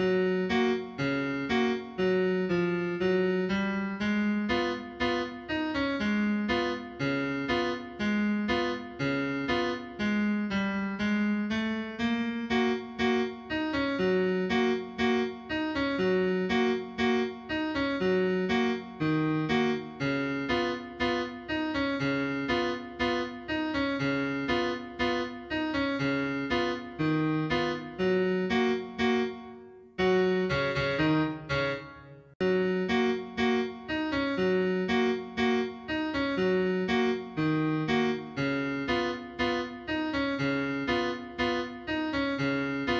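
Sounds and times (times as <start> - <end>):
gentle keyboard melody: 0.0 - 42.9.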